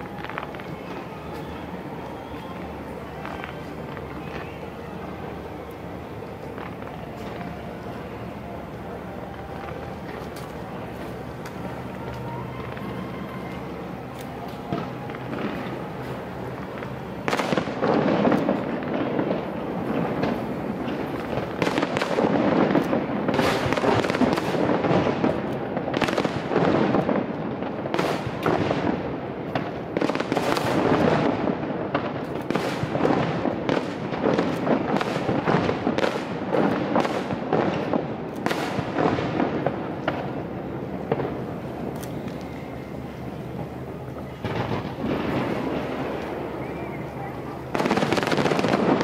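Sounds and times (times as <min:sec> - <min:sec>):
fireworks bangs: 0:00.0 - 0:49.0
fireworks rumble: 0:00.0 - 0:49.0.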